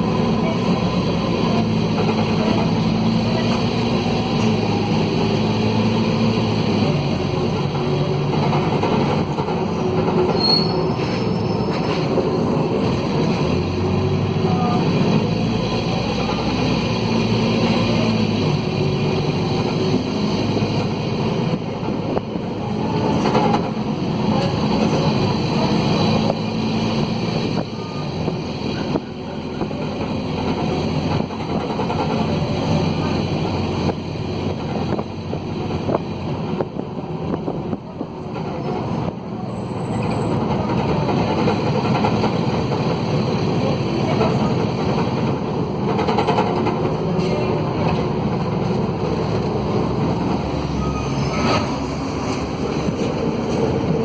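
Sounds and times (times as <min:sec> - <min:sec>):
bus diesel engine rasping: 0:00.0 - 0:54.0.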